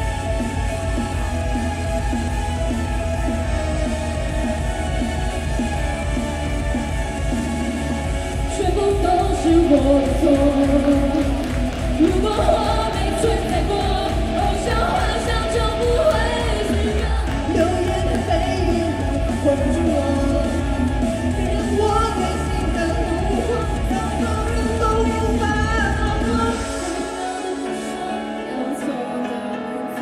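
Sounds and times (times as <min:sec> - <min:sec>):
live pop song over loudspeakers: 0:00.0 - 0:30.0.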